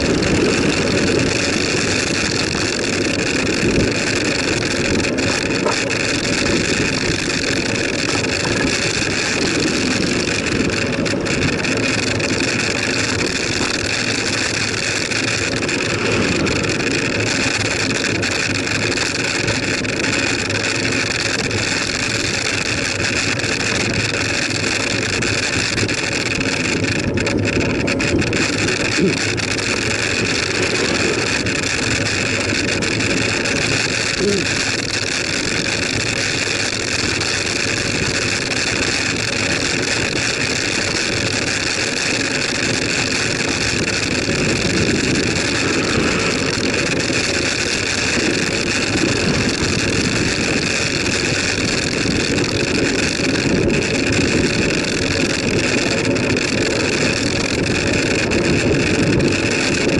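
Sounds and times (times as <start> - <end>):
wind on microphone: 0.0 - 20.2, 23.5 - 59.9
tyres rumbling on road: 0.0 - 59.9.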